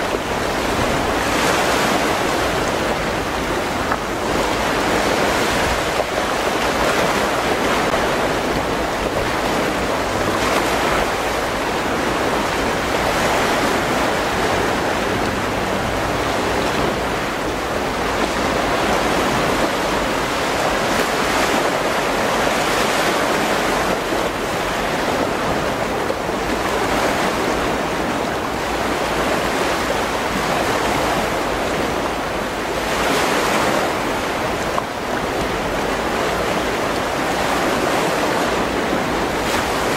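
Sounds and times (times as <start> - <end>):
choppy sea waves: 0.0 - 39.9
wind on microphone: 0.0 - 39.9.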